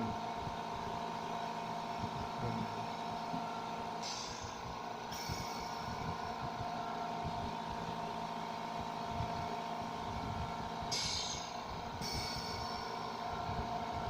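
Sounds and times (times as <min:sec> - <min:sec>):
compressor motor humming: 0:00.0 - 0:14.0.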